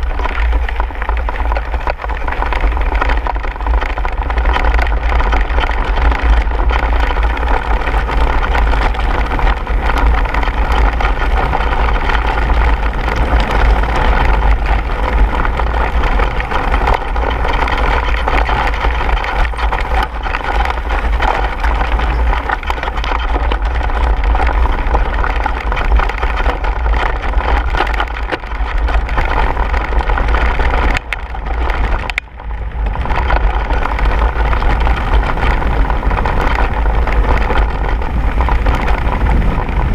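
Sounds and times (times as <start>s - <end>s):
bike clattering: 0.0s - 39.9s
tyres crunching over stones: 0.0s - 39.9s
wind rumbling on microphone: 0.0s - 39.9s.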